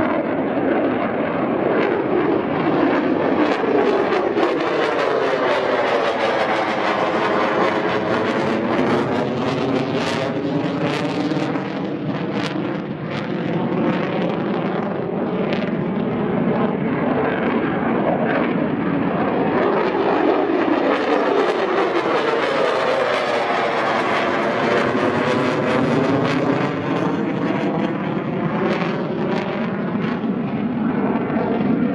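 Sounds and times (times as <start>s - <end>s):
fighter jet engine roaring: 0.0s - 31.9s.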